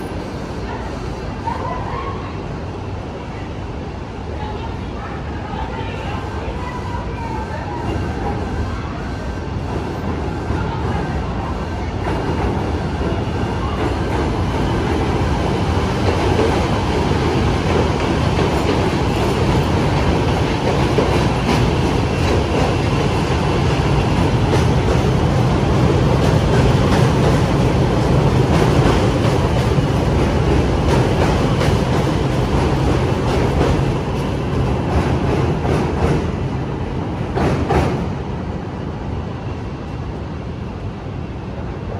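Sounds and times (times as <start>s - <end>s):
elevated train rumbling: 0.0s - 41.9s.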